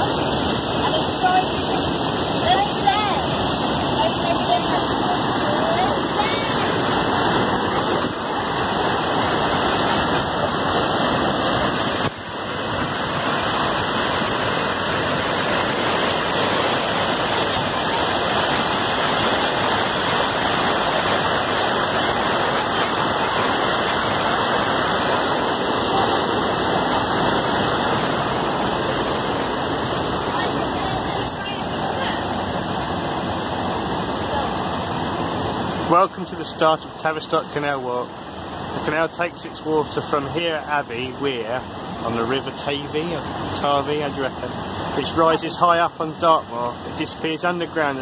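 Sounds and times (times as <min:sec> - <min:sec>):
water rushing over a weir: 0:00.0 - 0:48.0.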